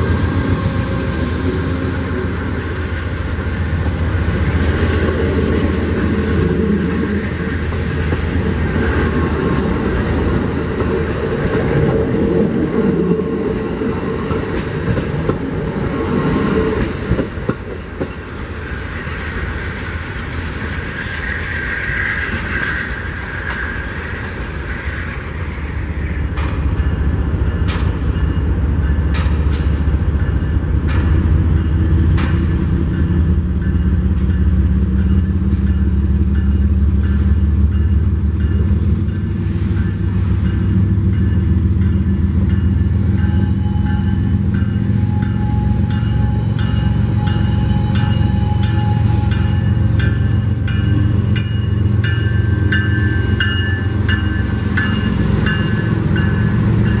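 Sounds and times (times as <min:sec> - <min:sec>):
diesel locomotive hum: 0:00.0 - 0:57.0
train wheels rumbling on rails: 0:00.0 - 0:57.0.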